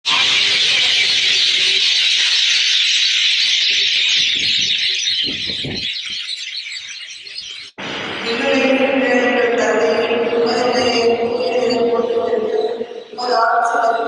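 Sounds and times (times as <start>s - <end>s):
chatter of many birds: 0.1s - 14.0s.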